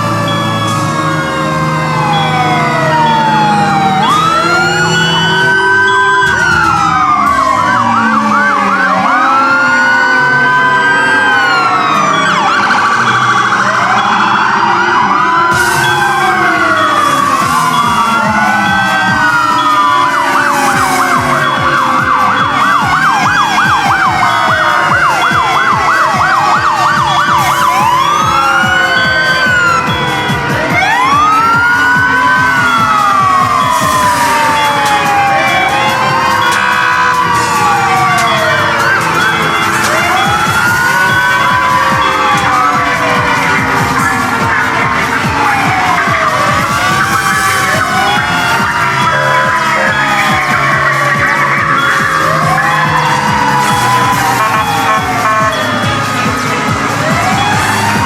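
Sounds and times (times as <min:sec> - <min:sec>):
siren wail: 0:00.0 - 0:58.0
siren yelp: 0:00.0 - 0:58.0
high beeping: 0:00.1 - 0:01.2, 0:01.9 - 0:56.5.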